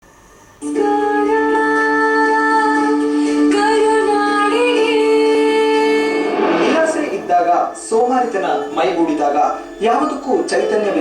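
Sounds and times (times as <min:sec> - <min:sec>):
music with long held notes: 0:00.6 - 0:11.0.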